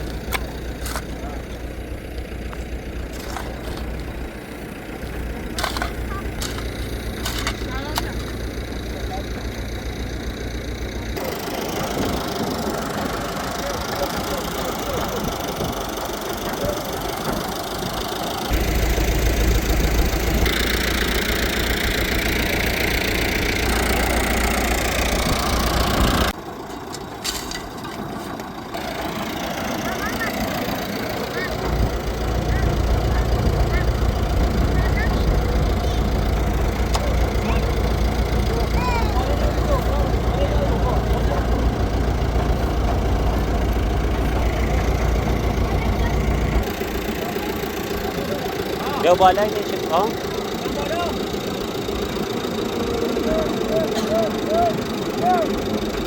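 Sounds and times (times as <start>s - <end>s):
tractor engine rumbling: 0.0s - 56.0s.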